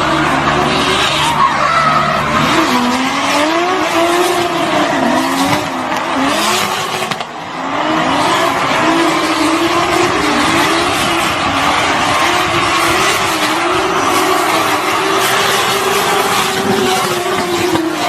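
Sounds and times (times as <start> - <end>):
car engine at high revs: 0.0 - 18.0
tyres skidding: 0.0 - 18.0.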